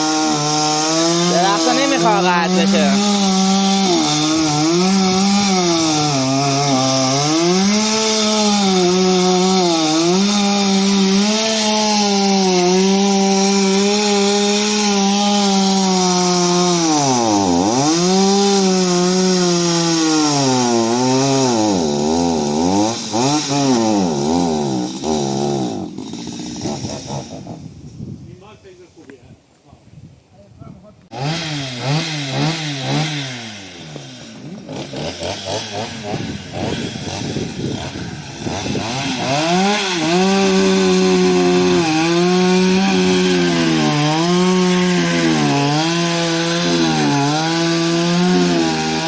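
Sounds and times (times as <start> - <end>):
chainsaw cutting wood: 0.0 - 28.0, 31.1 - 49.0.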